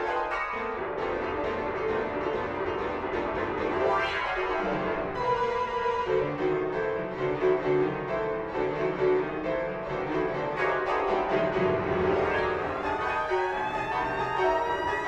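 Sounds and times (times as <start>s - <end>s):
fast keyboard notes: 0.0s - 15.0s.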